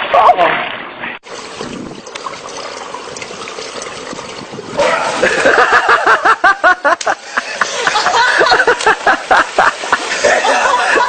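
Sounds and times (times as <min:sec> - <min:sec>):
water trickling: 0:01.2 - 0:11.0.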